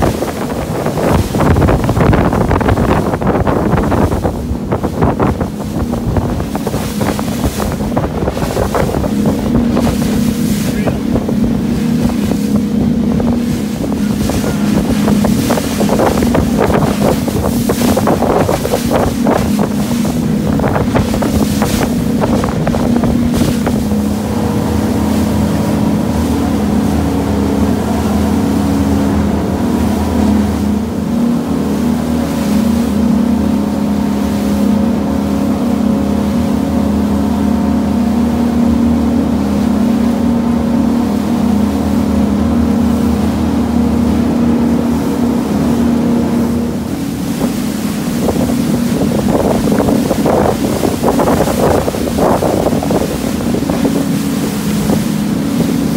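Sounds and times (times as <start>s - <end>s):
hulls slapping waves: 0.0s - 55.9s
outboard engine drone: 0.0s - 55.9s
wind on microphone: 0.0s - 55.9s.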